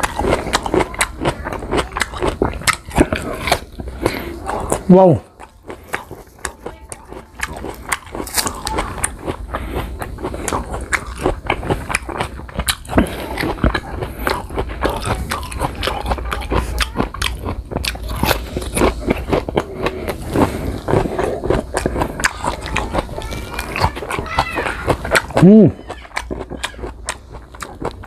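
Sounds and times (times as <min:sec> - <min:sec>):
crunching and chewing fruit: 0:00.0 - 0:28.0.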